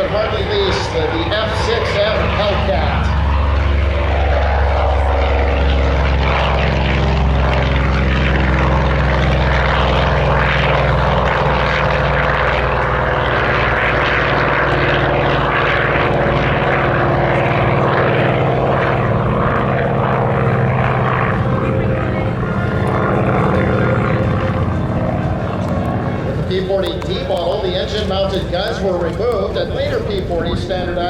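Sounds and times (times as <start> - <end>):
propeller air rushing: 0.0 - 31.0
propeller plane engine drone: 0.0 - 31.0.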